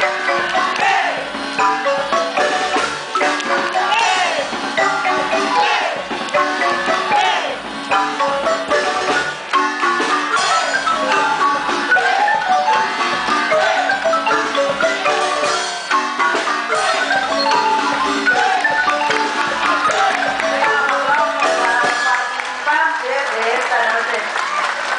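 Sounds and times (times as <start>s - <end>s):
marimba dance music: 0.0s - 23.1s.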